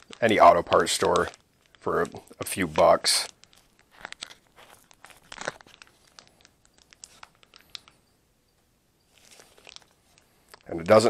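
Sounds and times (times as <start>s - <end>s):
plastic packet crinkling: 0.0s - 8.1s, 9.1s - 11.0s.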